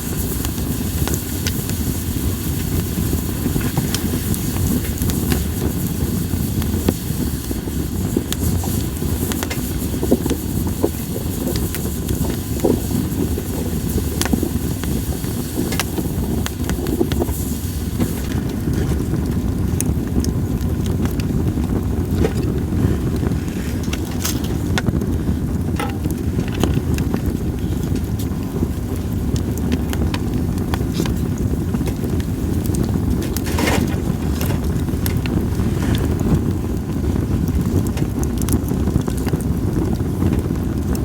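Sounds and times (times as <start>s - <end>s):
campfire crackling and popping: 0.0s - 41.0s
steady low rumble: 0.0s - 41.0s.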